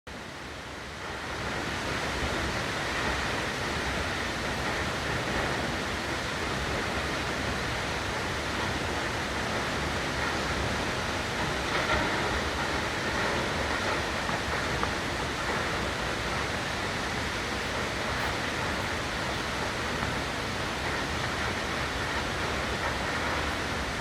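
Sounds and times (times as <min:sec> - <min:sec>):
waterfall rushing: 0:00.2 - 0:24.0.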